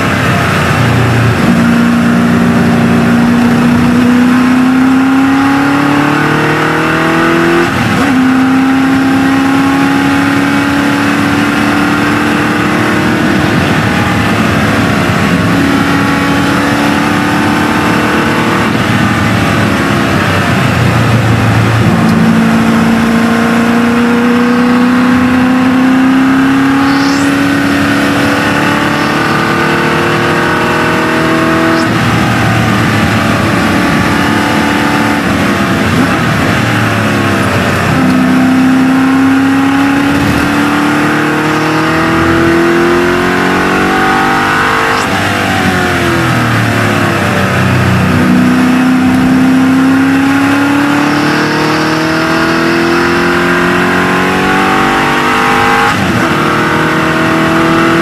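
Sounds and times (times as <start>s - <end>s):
engine at full throttle: 0.0s - 58.0s.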